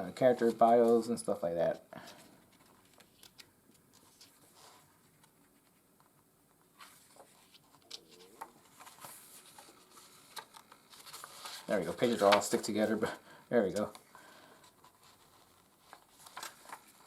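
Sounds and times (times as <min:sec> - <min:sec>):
paper pages turning: 0:00.2 - 0:17.0.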